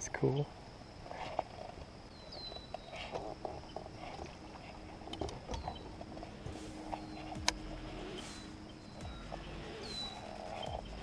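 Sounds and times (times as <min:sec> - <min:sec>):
bird calling: 0:00.0 - 0:11.0
faint steady hum: 0:00.0 - 0:11.0.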